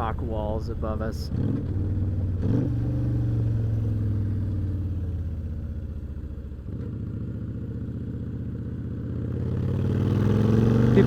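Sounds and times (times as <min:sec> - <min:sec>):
motorcycle engine running: 0:00.8 - 0:11.0.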